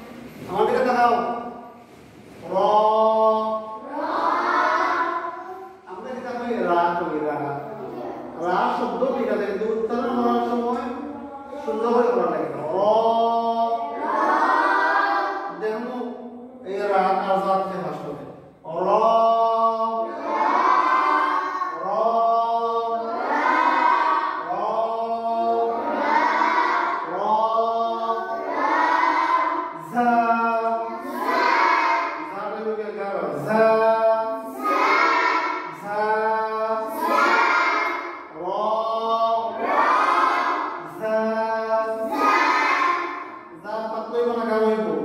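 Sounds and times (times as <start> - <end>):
children chanting in unison: 1.4 - 6.5, 7.6 - 12.3, 13.0 - 15.6, 19.4 - 33.5, 34.1 - 44.5.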